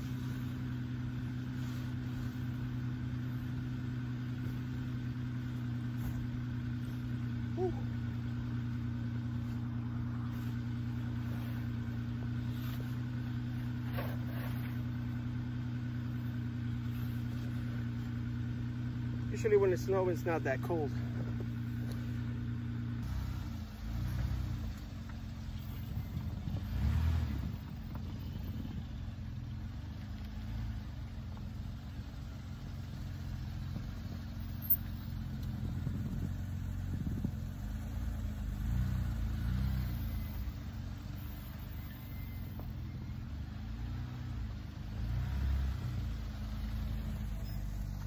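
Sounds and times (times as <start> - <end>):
van engine running: 0.0 - 48.0.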